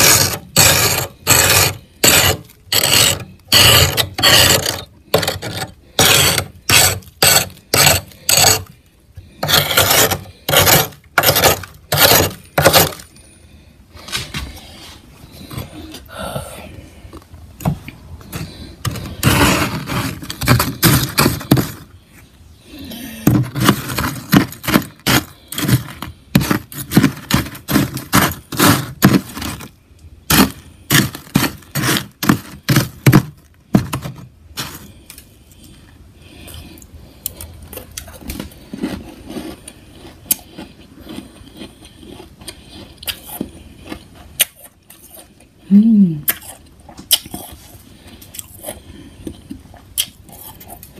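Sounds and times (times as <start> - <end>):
freezer frost scraping: 0.0 - 16.0, 18.2 - 35.6, 37.7 - 45.3.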